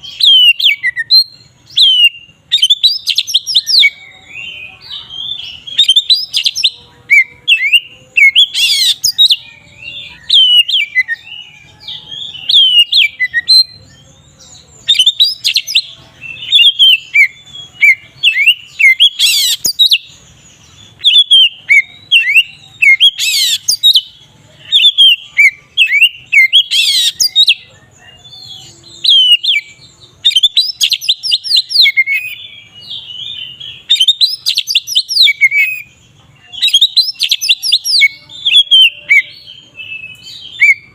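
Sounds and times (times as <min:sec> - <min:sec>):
harsh bird notes: 0:00.0 - 0:40.9
songbird singing whistles and chirps: 0:00.0 - 0:40.9.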